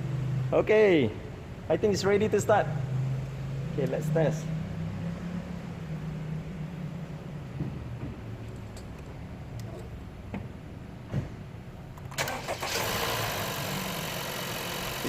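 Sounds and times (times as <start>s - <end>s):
car engine cranking and idling: 0.0s - 15.0s.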